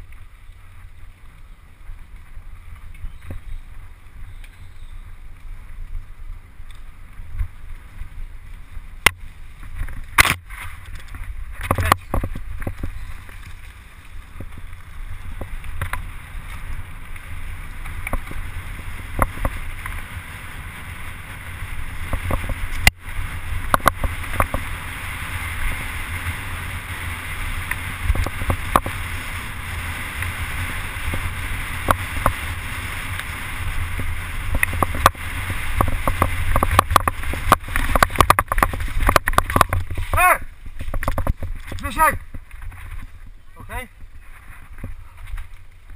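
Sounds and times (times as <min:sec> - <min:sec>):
bike rattling and clicking: 0:00.0 - 0:45.9
tyres rolling over dirt: 0:00.0 - 0:45.9
wind buffeting microphone: 0:00.0 - 0:45.9.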